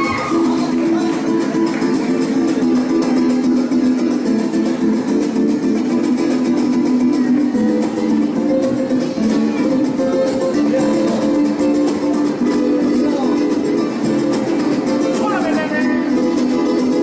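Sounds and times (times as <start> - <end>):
guitars strumming: 0.0 - 17.0.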